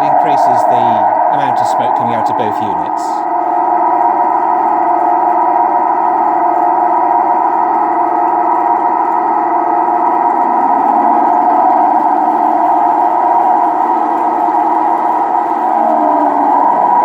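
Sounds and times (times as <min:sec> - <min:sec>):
diesel engine drone from speaker: 0:00.0 - 0:17.0.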